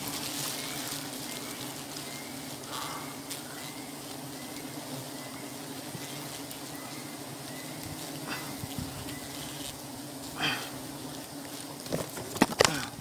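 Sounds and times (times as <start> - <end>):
honey bees humming: 0.0 - 13.0.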